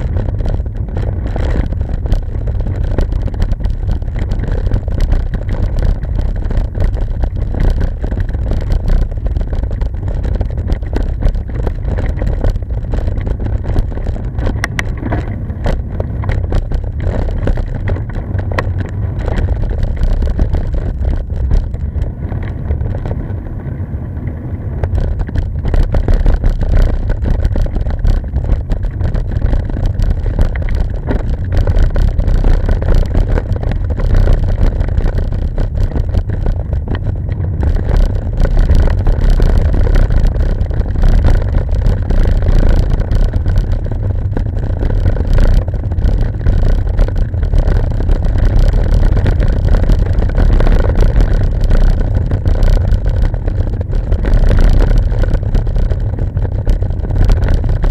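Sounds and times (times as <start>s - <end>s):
tyre noise on coarse asphalt: 0.0s - 57.9s
wind buffeting microphone: 0.0s - 57.9s.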